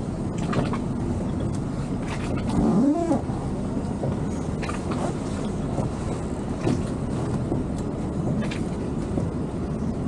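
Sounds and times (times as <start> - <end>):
boat engine low rumble: 0.0 - 10.0.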